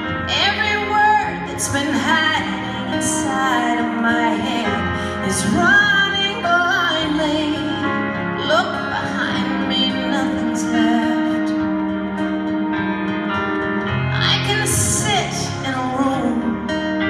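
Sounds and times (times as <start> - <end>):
woman singing into microphone: 0.1 - 12.2, 14.1 - 17.0.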